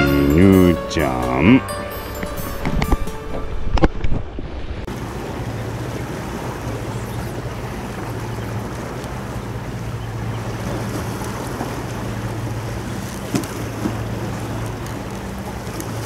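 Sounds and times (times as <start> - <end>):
boat engine droning: 0.0 - 16.0
waves: 0.0 - 16.0
wind: 0.0 - 16.0.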